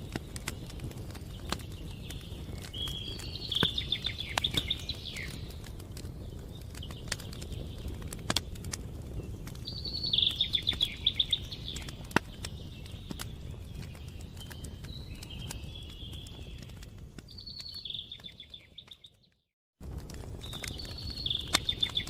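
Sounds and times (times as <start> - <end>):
bird singing trilled notes: 0.0 - 8.1, 9.1 - 19.5, 20.4 - 22.0
wood fire crackling: 0.0 - 22.0.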